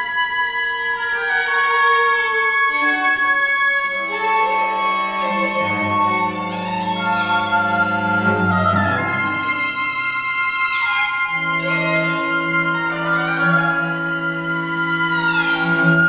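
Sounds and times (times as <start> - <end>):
chamber quartet playing held notes: 0.0 - 16.0.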